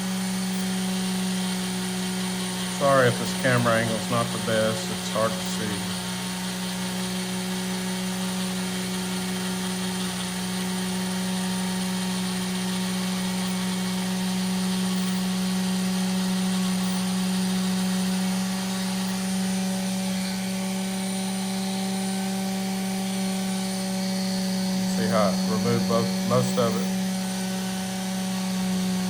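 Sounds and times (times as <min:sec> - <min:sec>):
electric polishing tool humming: 0:00.0 - 0:29.0.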